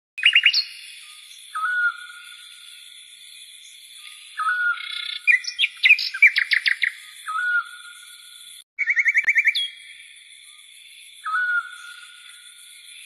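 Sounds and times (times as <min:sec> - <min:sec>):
songbirds chirping and trilling: 0:00.2 - 0:13.0.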